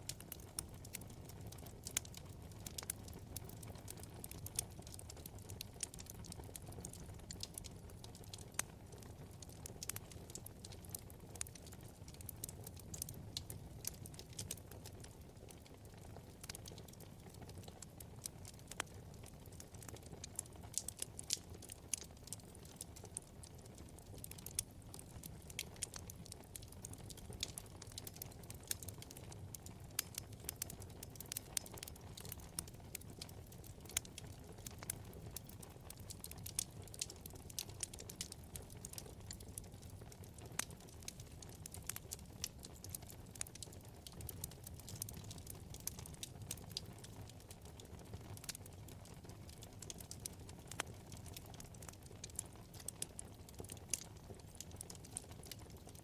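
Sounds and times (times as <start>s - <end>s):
burning logs crackling and popping: 0.0s - 56.0s.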